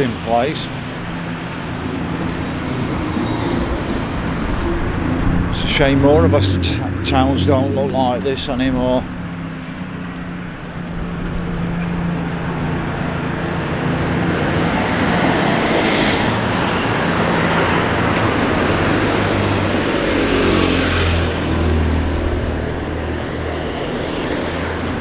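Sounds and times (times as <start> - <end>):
cars driving past: 0.0 - 25.0
low engine drone: 0.0 - 25.0.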